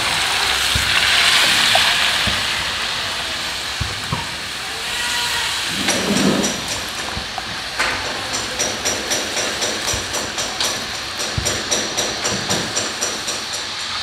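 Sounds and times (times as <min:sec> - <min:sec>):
water hissing in hot wok: 0:00.0 - 0:14.0.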